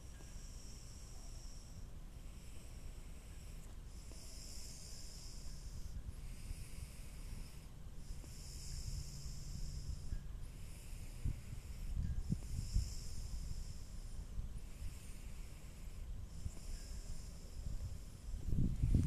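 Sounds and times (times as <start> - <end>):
person breathing close to microphone: 0.0 - 19.0.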